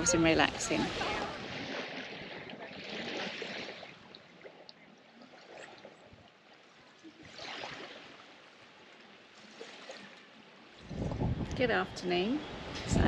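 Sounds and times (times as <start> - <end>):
small waves lapping on beach: 0.0 - 13.0.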